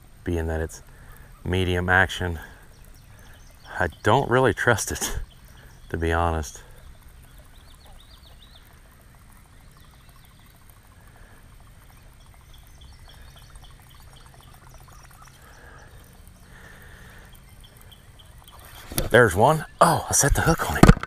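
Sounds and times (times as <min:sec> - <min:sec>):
lure churning gurgle with clicking: 0:00.8 - 0:21.0.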